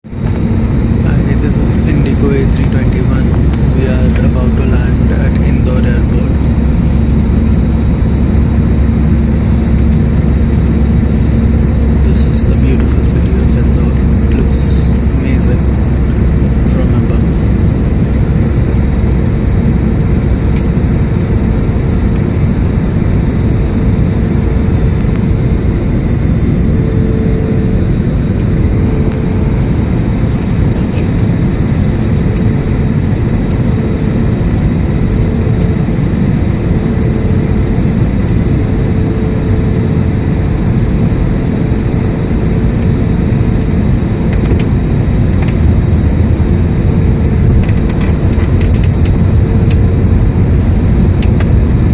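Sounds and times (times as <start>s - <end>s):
airliner cabin engine roar: 0.0s - 51.9s
hum: 0.0s - 51.9s.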